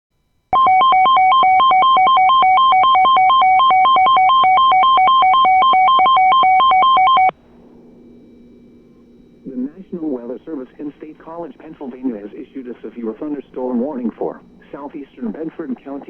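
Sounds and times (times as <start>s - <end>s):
faint hum: 0.1s - 16.0s.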